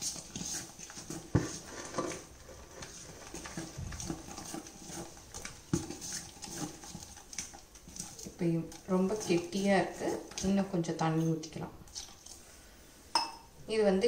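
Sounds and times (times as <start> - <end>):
spoon scraping and knocking bowl: 0.0 - 12.4.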